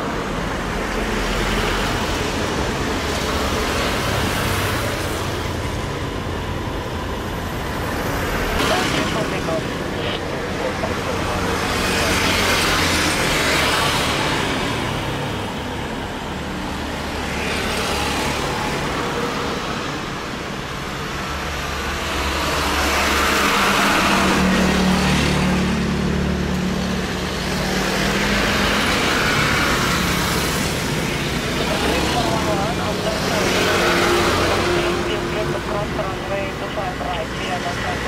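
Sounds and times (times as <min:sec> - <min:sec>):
steady traffic rumble: 0:00.0 - 0:38.0
vehicles passing close by: 0:00.0 - 0:38.0.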